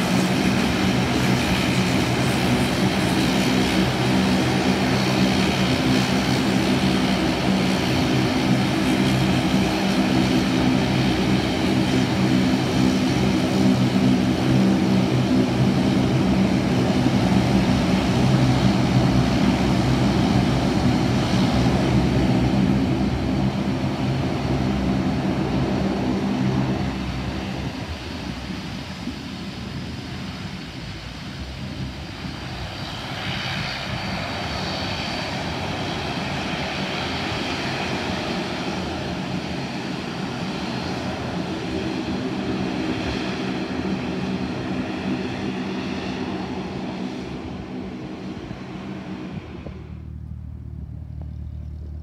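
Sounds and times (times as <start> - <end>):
high turbine whine: 0.0 - 52.0
propeller drone: 0.0 - 52.0.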